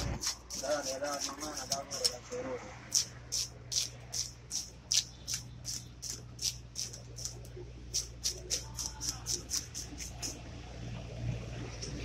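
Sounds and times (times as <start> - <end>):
blade scraping fish scales: 0.0 - 10.4.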